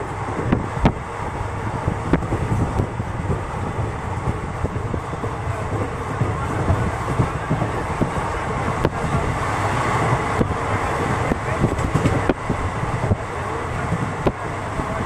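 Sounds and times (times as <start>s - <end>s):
train rumbling: 0.0s - 15.0s
wheels clacking over rail joints: 0.0s - 15.0s
wind noise on microphone: 0.0s - 15.0s.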